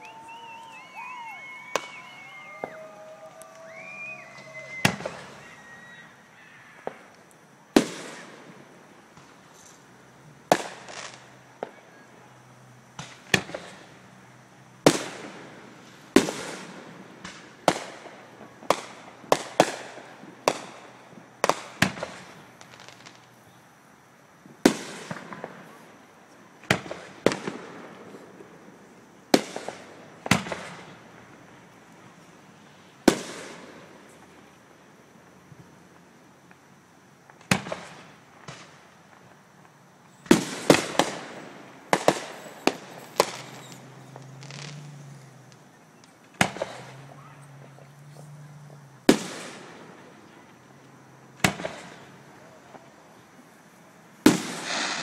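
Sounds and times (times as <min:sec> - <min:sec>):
fireworks bursting with echo: 0:00.0 - 0:09.5, 0:10.4 - 0:12.0, 0:12.9 - 0:14.0, 0:14.8 - 0:23.5, 0:24.4 - 0:34.8, 0:35.6 - 0:50.7, 0:51.3 - 0:55.0.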